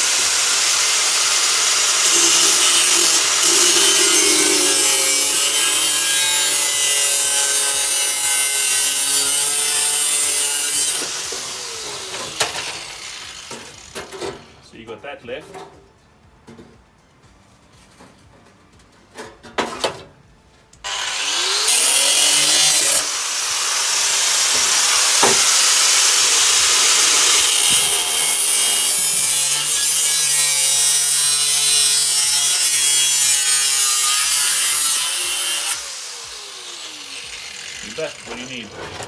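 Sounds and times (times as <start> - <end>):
power tool cutting: 0.0 - 14.3, 20.9 - 38.7.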